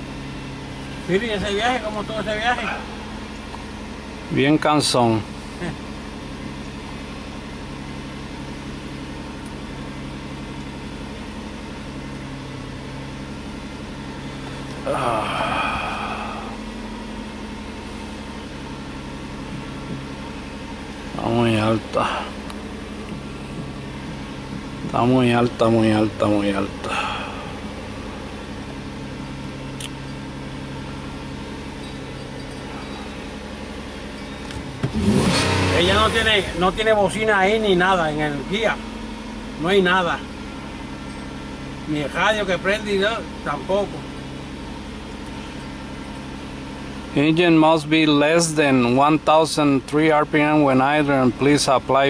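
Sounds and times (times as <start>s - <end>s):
car engine fast idling: 0.0s - 52.0s.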